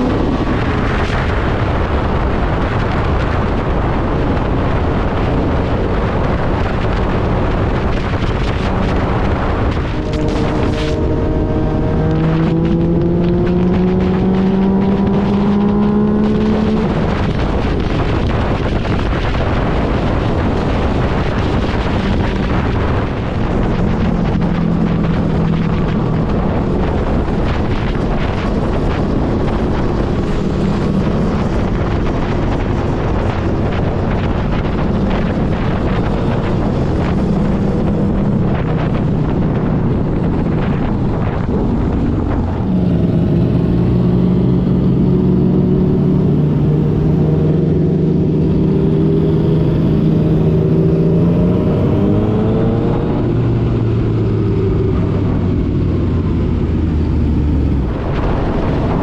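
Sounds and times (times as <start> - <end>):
motorcycle engine accelerating: 0.0 - 59.0
wind noise on microphone: 0.0 - 59.0.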